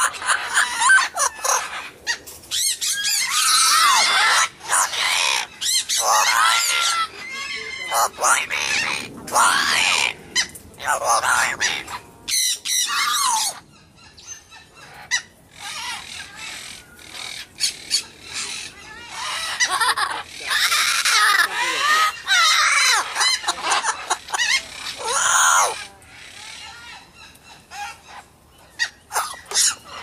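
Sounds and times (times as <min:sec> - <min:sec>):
bird chatter: 0:00.0 - 0:30.0
birds screeching: 0:00.0 - 0:30.0.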